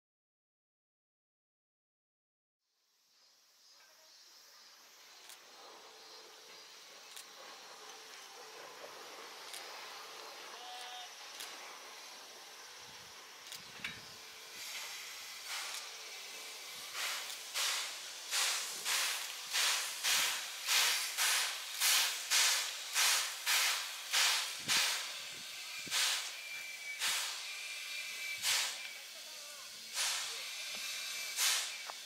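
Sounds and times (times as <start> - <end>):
steady steam hiss: 2.9 - 32.0
steam locomotive chuffing: 5.5 - 13.5, 14.1 - 32.0.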